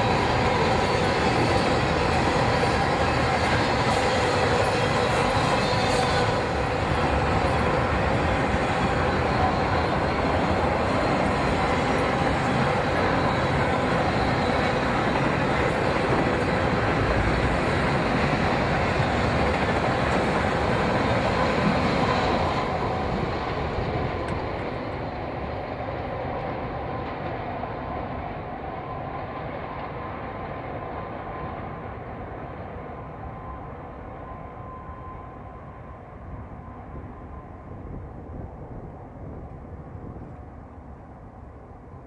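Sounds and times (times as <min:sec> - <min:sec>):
train wheels on rails: 0:00.0 - 0:42.0.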